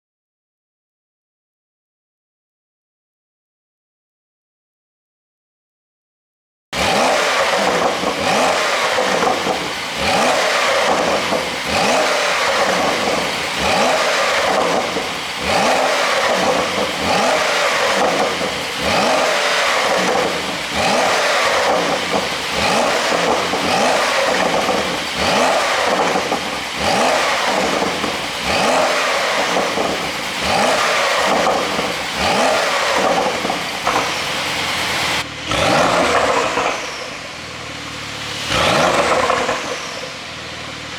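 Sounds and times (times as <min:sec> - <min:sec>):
car exhaust revving: 0:06.8 - 0:40.9.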